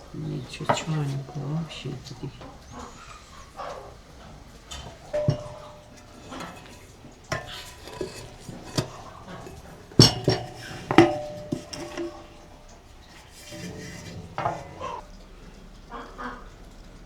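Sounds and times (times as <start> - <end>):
metal utensils clinking on dishes: 0.0 - 15.1.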